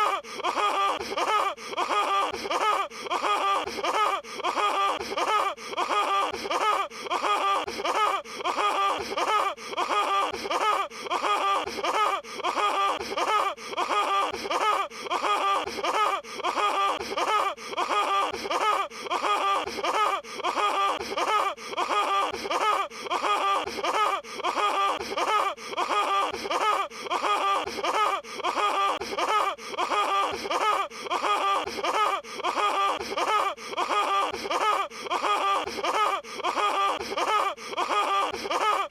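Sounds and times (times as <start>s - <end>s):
cartoon laugh: 0.0s - 38.9s.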